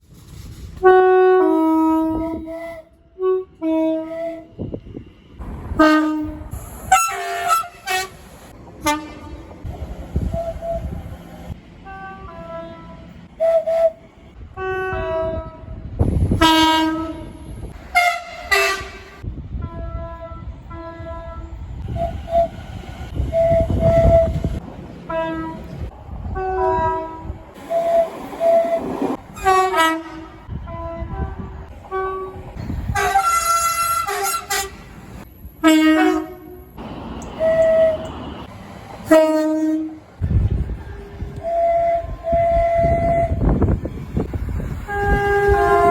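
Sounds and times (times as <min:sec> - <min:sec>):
rumble of passing train: 0:00.0 - 0:45.9
train horn blasts: 0:00.8 - 0:04.8, 0:05.8 - 0:08.2, 0:08.8 - 0:09.5, 0:11.8 - 0:34.9, 0:35.6 - 0:43.8, 0:44.7 - 0:45.9.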